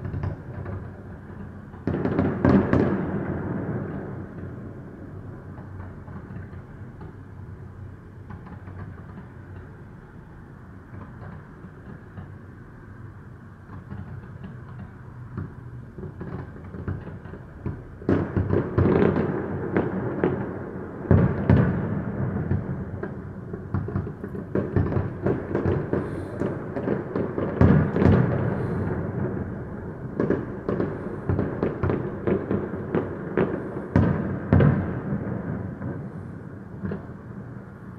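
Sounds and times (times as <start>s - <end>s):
distant fireworks bangs and crackling: 0.0s - 37.9s
low background noise: 0.0s - 37.9s.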